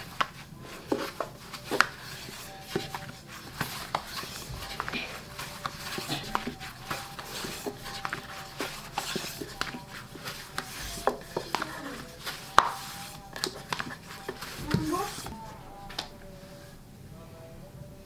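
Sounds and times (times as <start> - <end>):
rolling pin rubbing dough: 0.0 - 16.8.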